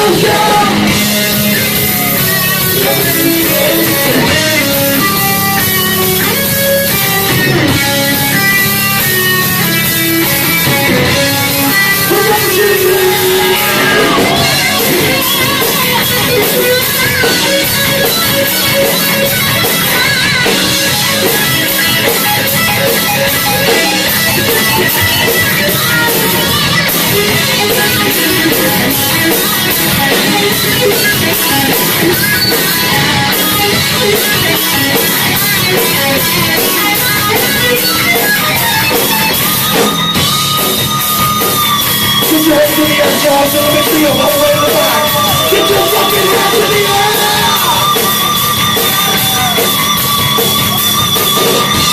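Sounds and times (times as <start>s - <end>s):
heavy metal band playing: 0.0s - 51.9s.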